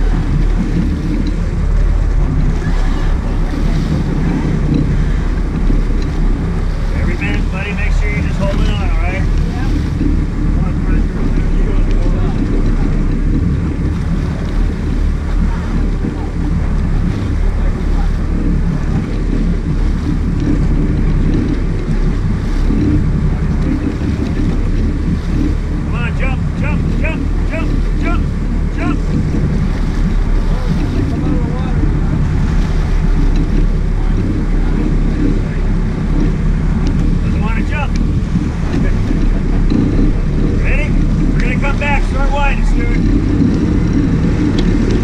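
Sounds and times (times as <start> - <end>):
boat engines rumbling: 0.0 - 45.0
rushing water: 0.0 - 45.0
wind buffeting microphone: 0.0 - 45.0.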